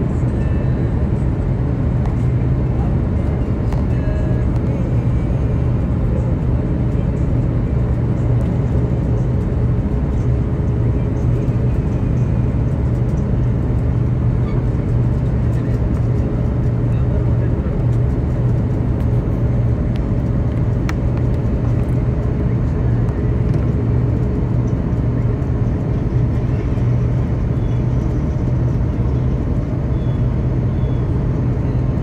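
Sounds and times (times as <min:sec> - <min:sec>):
jet airliner cabin rumble: 0:00.0 - 0:32.0.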